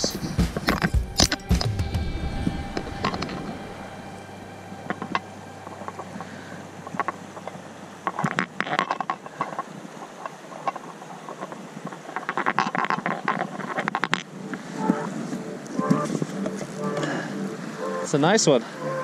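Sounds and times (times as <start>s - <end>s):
stream rushing over rocks: 1.1s - 16.4s.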